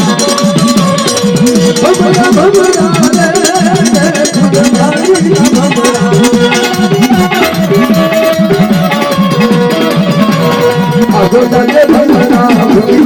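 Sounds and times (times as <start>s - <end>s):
fast repeating drum pattern: 0.0s - 13.0s
held melody line: 0.0s - 13.0s.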